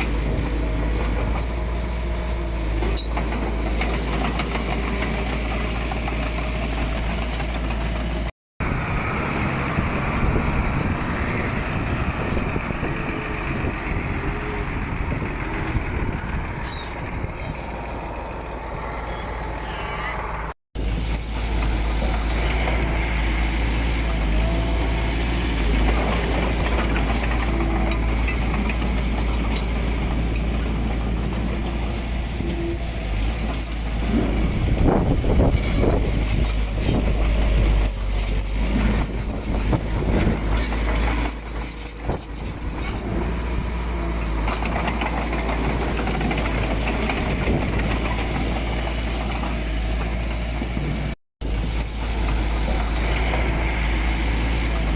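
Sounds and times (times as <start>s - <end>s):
heavy diesel machinery engine rumble: 0.0s - 54.9s.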